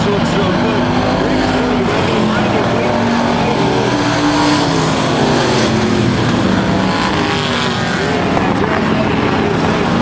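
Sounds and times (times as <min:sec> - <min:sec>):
race truck engines: 0:00.0 - 0:10.0.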